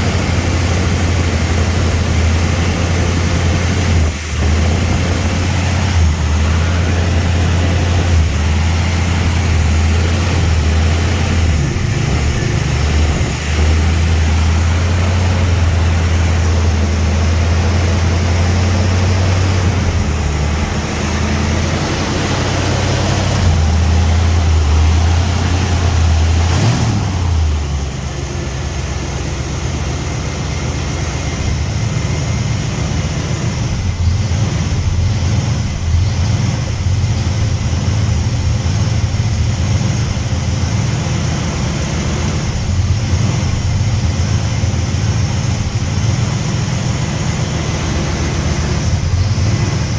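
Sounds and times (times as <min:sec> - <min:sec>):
engine surging idle: 0:00.0 - 0:49.9.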